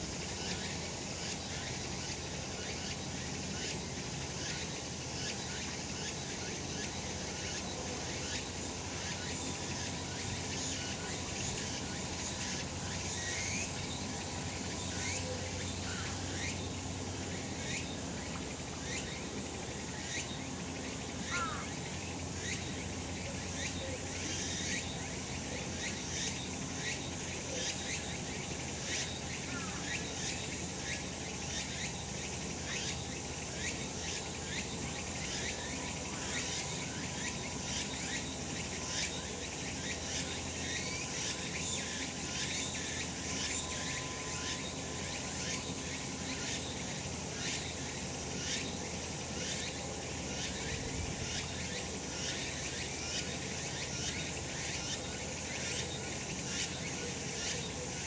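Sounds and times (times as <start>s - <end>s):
cicadas singing: 0.0s - 58.0s.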